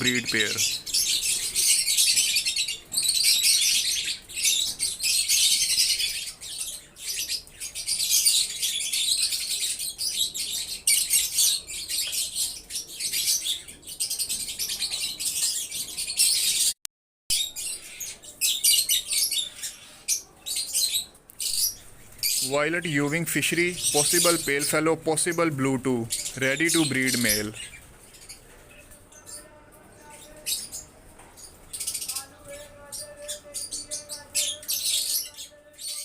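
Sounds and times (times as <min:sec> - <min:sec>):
lovebirds chattering and chirping: 0:00.0 - 0:36.0.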